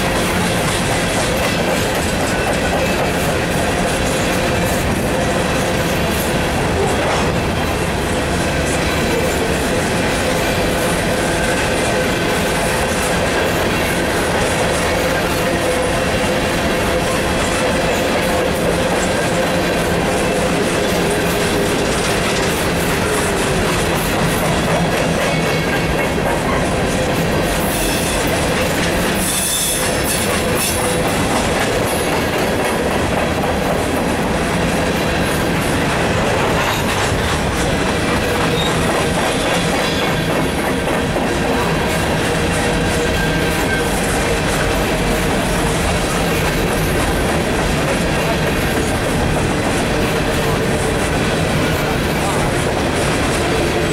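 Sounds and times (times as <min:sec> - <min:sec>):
train wheels clattering over rails: 0:00.0 - 0:53.9.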